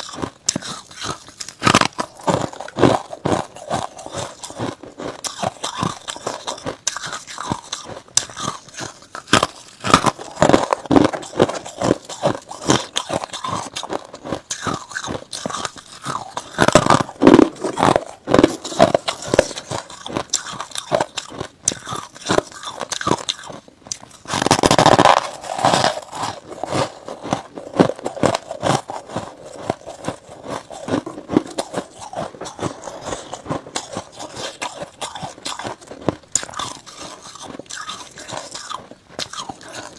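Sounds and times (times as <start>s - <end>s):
squeaky crunching of frost: 5.3s - 39.9s.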